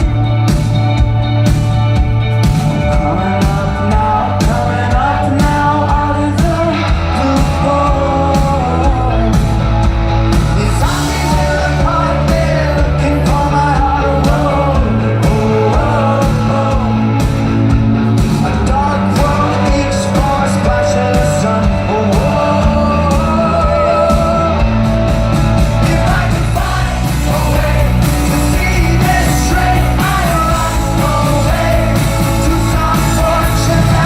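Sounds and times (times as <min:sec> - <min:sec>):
rock band playing: 0:00.0 - 0:34.0
steady drum beat: 0:00.0 - 0:34.0
person singing: 0:02.6 - 0:09.7, 0:10.4 - 0:17.8, 0:18.4 - 0:34.0.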